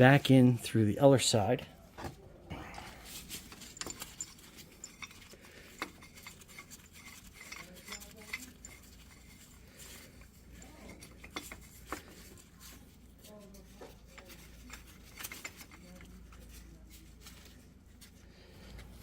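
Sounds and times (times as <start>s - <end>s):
metal tools clinking and tapping: 3.0s - 19.0s.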